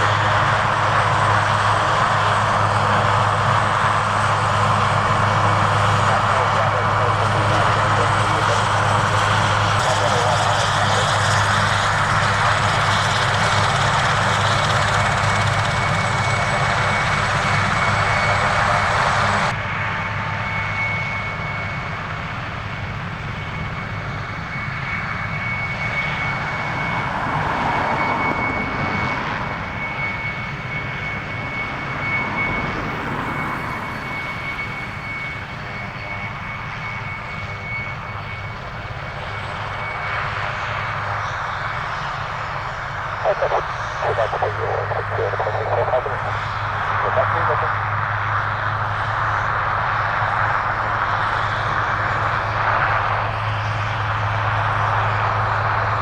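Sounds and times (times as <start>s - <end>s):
aircraft engine: 0.0s - 56.0s.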